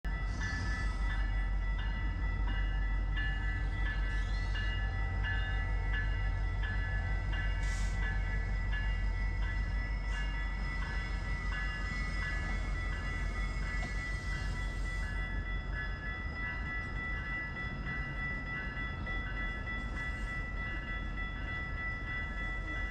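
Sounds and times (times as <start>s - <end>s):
train rumbling by: 0.0s - 22.9s.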